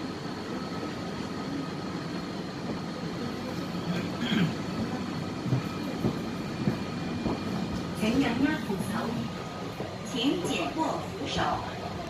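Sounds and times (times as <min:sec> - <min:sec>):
faint passenger voices: 0:00.0 - 0:12.0
train equipment hum: 0:00.0 - 0:12.0.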